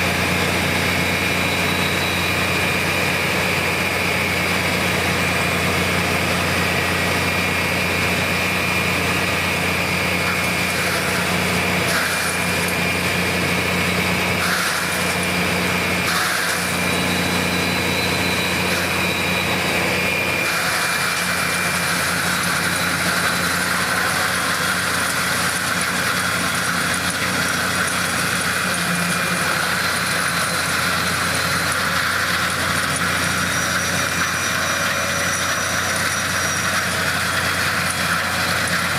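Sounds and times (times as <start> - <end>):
stump grinder running: 0.0 - 38.9.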